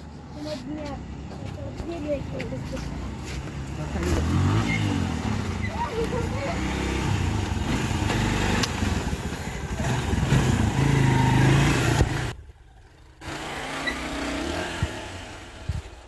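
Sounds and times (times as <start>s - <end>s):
motorcycle engine revving: 3.0s - 16.0s.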